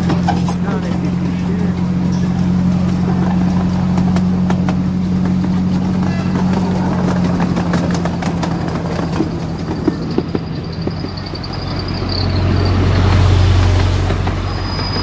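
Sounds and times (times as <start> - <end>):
faint high wheel squeal: 0.0 - 15.0
miniature train engine humming: 0.0 - 15.0.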